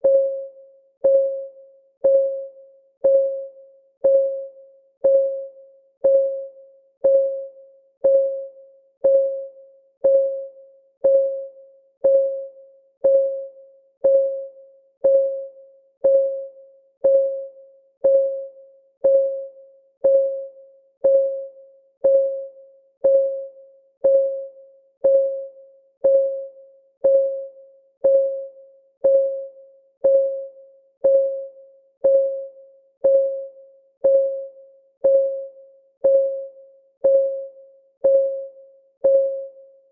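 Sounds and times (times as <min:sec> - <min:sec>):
timer clock ticking: 0:03.0 - 0:39.6.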